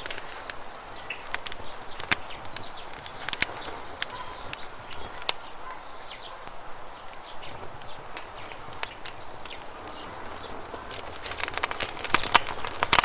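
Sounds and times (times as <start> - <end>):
bird chirps: 0.0 - 13.0
campfire crackling and popping: 0.0 - 13.0
running water rushing: 0.0 - 13.0.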